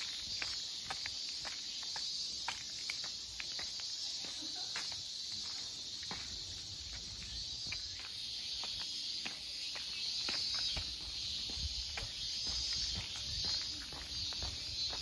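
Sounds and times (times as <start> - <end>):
high-pitched insect chorus: 0.0 - 15.0
light footsteps: 0.0 - 15.0.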